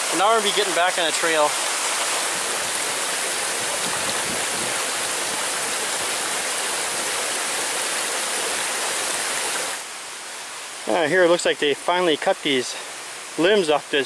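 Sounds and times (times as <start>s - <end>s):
waterfall and stream rushing: 0.0s - 14.0s.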